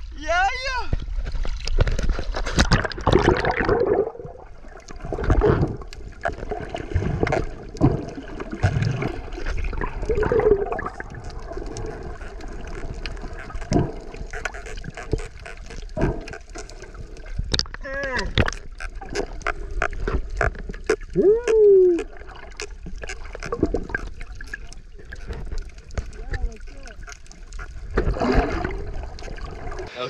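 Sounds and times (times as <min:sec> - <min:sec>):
sea water sloshing and gurgling: 0:00.9 - 0:30.0.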